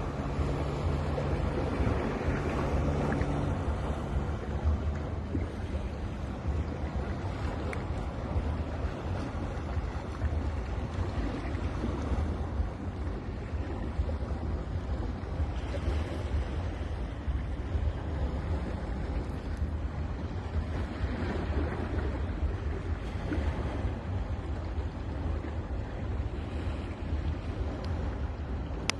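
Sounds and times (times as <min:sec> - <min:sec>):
ocean surf washing on beach: 0:00.0 - 0:28.9
wind rumble on microphone: 0:00.0 - 0:28.9.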